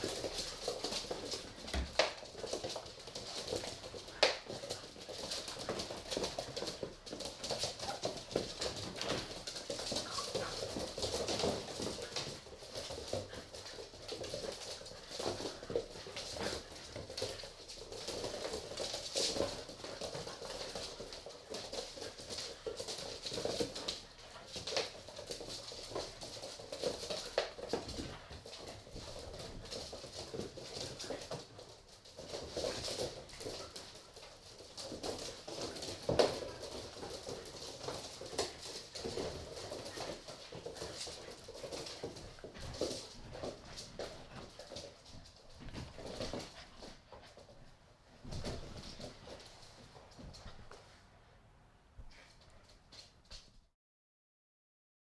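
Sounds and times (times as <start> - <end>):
claws tapping on hard floor: 0.0 - 47.2
puppies scuffling: 0.0 - 53.7.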